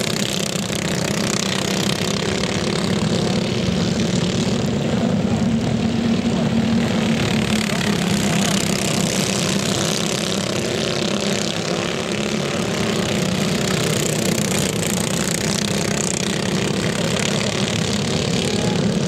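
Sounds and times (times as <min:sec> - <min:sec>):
kart engines droning: 0:00.0 - 0:19.0.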